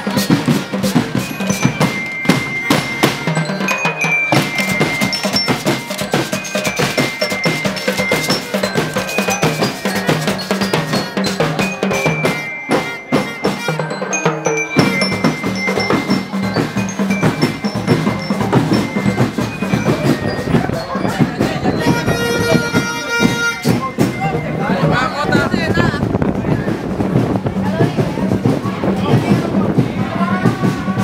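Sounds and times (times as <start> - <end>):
bell-like melody: 0.0 - 26.6
snare and bass drums marching: 0.0 - 31.0.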